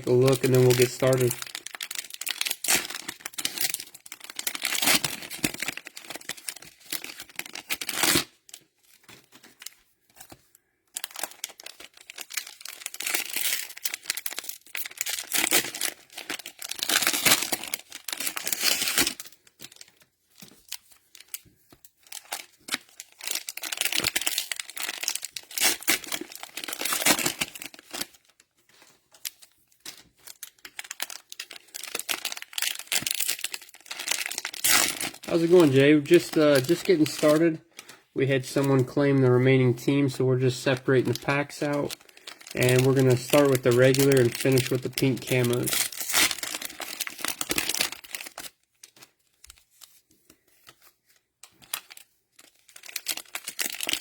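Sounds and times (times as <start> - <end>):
cellophane crinkling: 0.0 - 54.0.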